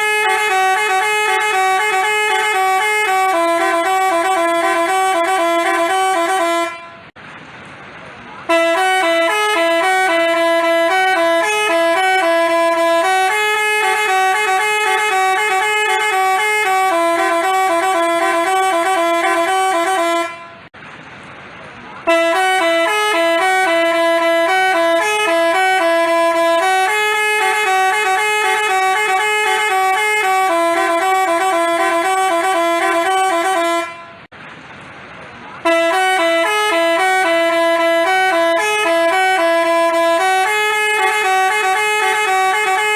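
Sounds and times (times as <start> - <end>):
bus horn playing multi-note tune: 0.0 - 7.2, 8.4 - 20.8, 22.0 - 34.3, 35.6 - 42.9.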